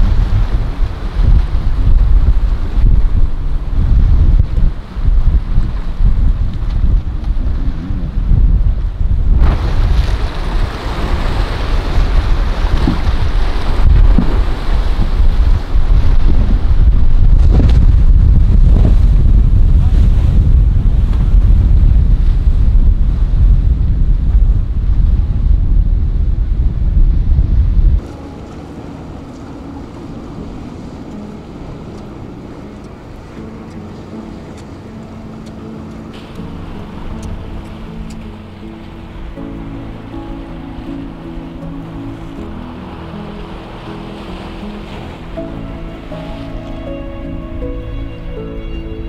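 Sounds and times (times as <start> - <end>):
boat engine running: 0.0 - 49.0
surf rushing: 0.0 - 49.0
waves and water washing: 0.0 - 49.0
wind buffeting microphone: 0.0 - 49.0.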